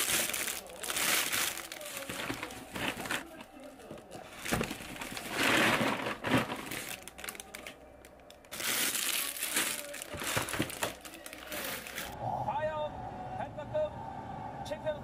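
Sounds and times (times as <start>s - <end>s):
packaging crinkling: 0.0s - 12.2s.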